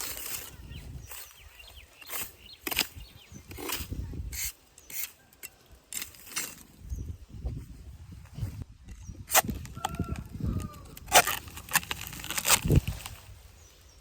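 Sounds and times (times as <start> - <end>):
knocks and scraping on dry wood: 0.0 - 6.9, 8.3 - 13.3.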